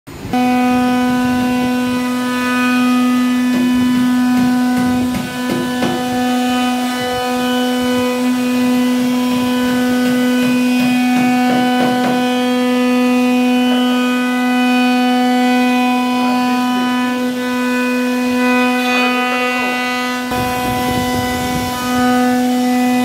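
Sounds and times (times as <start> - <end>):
router bit rasping wood: 0.1 - 23.0
router spindle high whine: 0.1 - 23.0.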